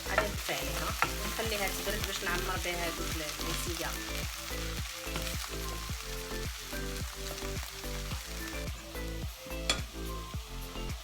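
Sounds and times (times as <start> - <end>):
background music with a beat: 0.0 - 11.0
vegetables sizzling in a pan: 0.0 - 11.0.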